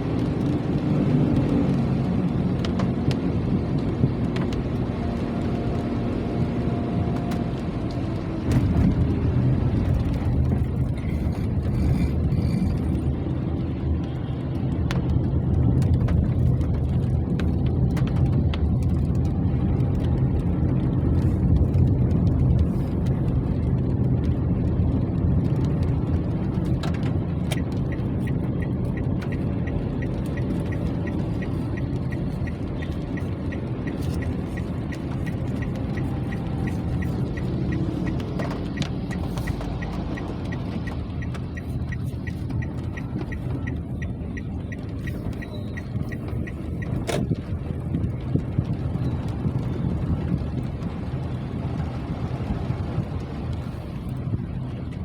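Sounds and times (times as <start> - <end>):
rain rumble: 0.0 - 55.0
raindrop clicks: 0.0 - 55.0.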